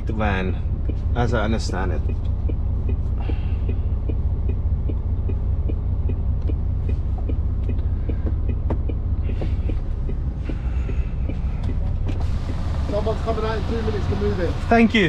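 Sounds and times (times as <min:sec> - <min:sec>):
diesel engine idling: 0:00.0 - 0:15.0
faint light ticking: 0:00.5 - 0:12.6.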